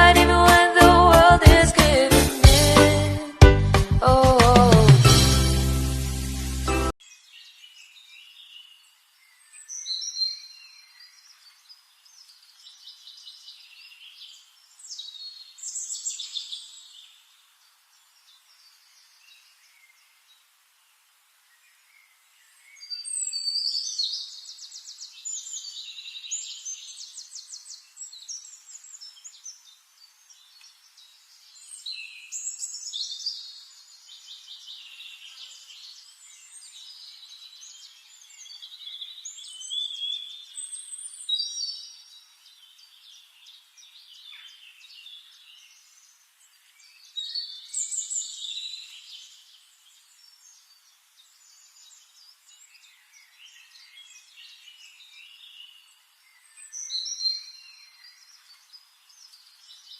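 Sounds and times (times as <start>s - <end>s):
songbirds trilling and chirping: 7.0s - 59.9s.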